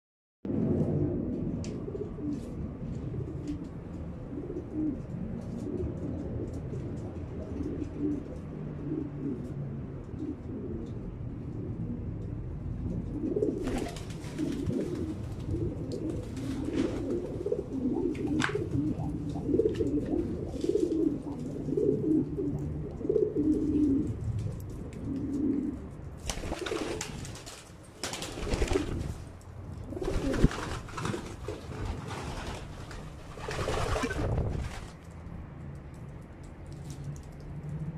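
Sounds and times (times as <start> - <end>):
pigeons cooing: 0.7 - 27.4, 28.3 - 34.6.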